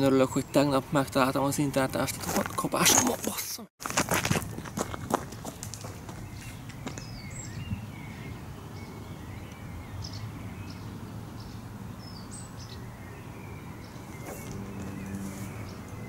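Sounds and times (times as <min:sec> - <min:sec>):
birds chirping: 0:00.0 - 0:03.6, 0:04.6 - 0:16.0.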